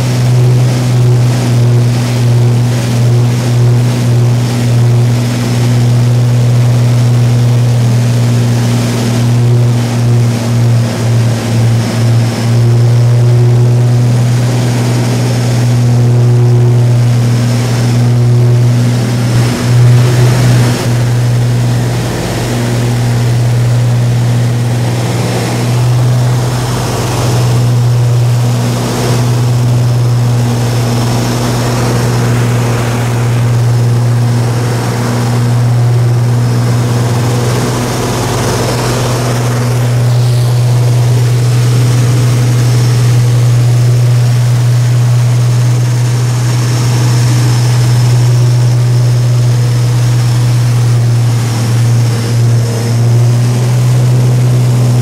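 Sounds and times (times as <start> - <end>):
aircraft engines droning: 0.0 - 55.0
air rushing past: 7.0 - 55.0.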